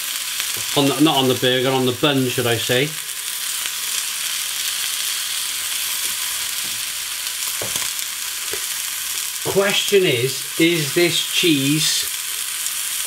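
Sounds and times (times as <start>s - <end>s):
burger patty sizzling: 0.0s - 13.0s.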